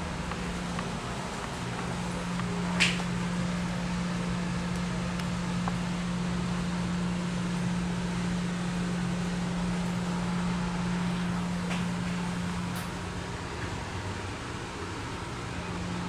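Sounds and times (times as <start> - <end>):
kitchen machinery humming: 0.0 - 16.0.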